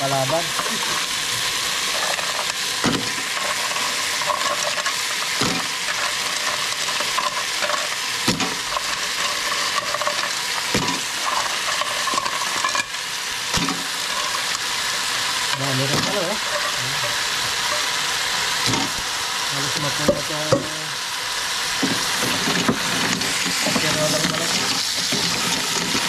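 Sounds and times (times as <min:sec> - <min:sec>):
food sizzling in a pan: 0:00.0 - 0:26.0
spatula scraping a pan: 0:00.2 - 0:19.0, 0:21.8 - 0:26.0.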